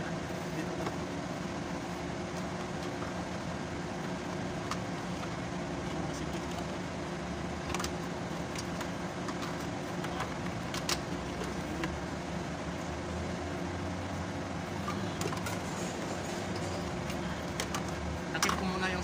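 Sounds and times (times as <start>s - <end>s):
low vehicle hum: 0.0s - 19.0s.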